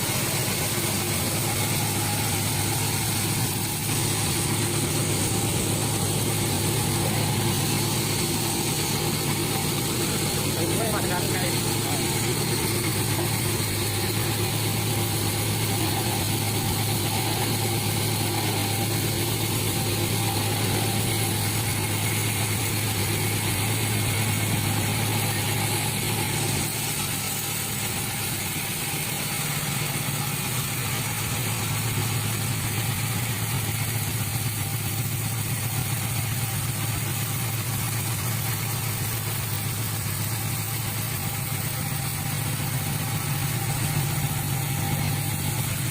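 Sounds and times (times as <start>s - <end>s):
sawmill engine humming: 0.0s - 45.9s.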